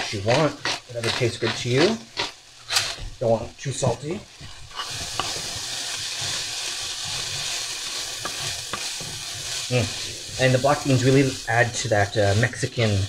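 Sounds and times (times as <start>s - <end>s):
vegetables sizzling in a frying pan: 0.0s - 13.0s
wooden spoon stirring: 0.0s - 13.0s.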